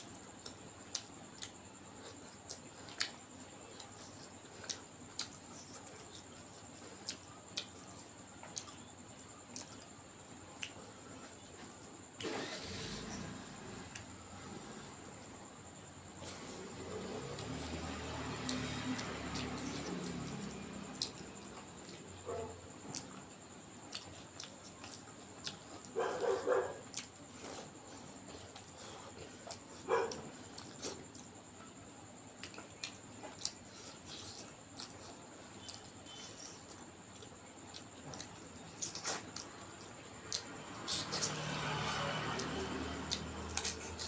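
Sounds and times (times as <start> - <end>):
wet chewing and lip-smacking: 0.1 - 9.9, 10.5 - 11.8, 16.2 - 31.4, 32.4 - 44.0.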